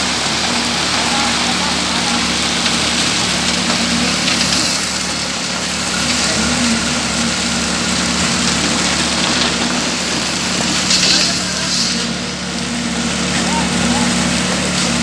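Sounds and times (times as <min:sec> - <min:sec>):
concrete mix rushing: 0:00.0 - 0:15.0
concrete mixer engine running: 0:00.0 - 0:15.0.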